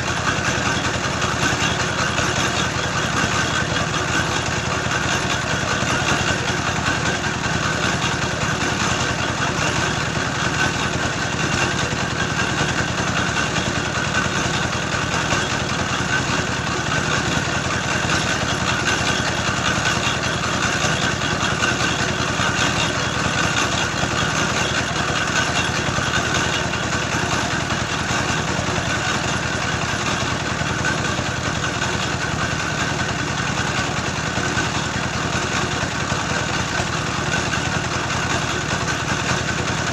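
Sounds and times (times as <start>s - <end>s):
grinding machine engine running: 0.0s - 39.9s.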